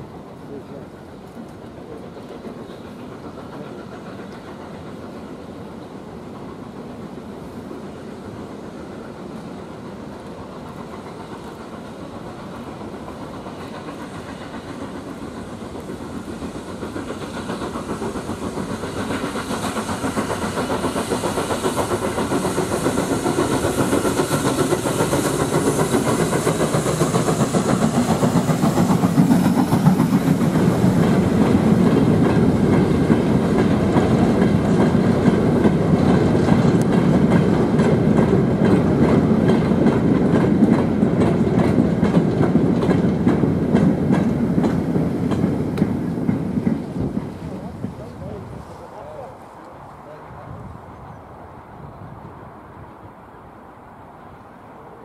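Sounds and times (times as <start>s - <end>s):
steam locomotive exhaust: 0.0s - 55.0s
wagons rumbling on rails: 0.0s - 55.0s.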